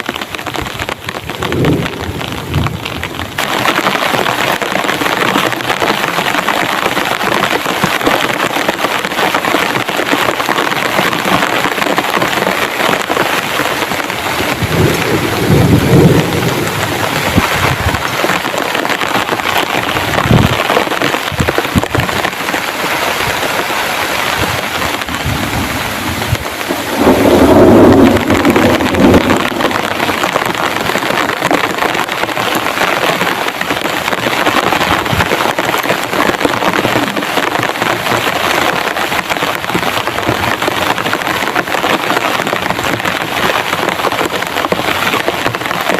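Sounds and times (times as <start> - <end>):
thunder rumbling: 0.0 - 7.7, 8.6 - 45.9
heavy rain falling: 0.0 - 45.9.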